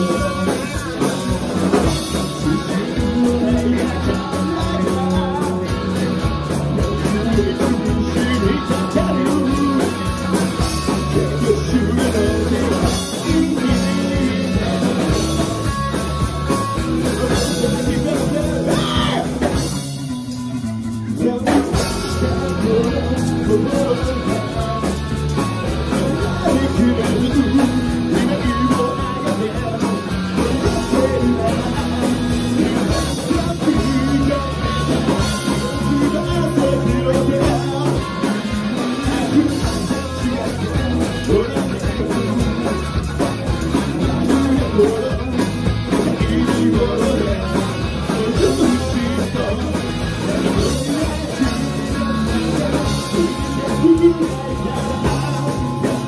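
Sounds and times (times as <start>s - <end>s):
drum kit: 0.0s - 56.0s
electric bass: 0.0s - 56.0s
electric guitar: 0.0s - 56.0s
man singing: 0.0s - 56.0s.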